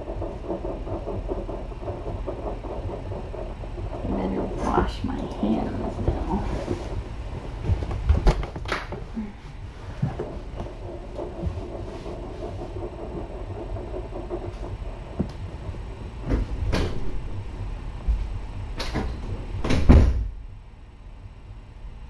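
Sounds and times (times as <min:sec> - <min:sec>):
door knocks and clatters: 0:00.0 - 0:09.1, 0:09.8 - 0:20.4
low rumble: 0:00.0 - 0:22.0.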